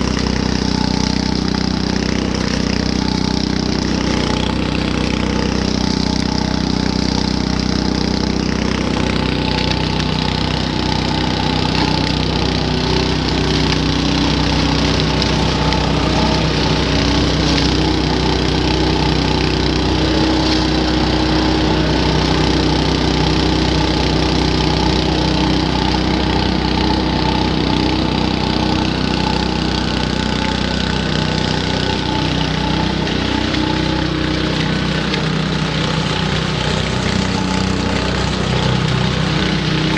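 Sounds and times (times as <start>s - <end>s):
garden leaf vacuum running: 0.0s - 39.9s.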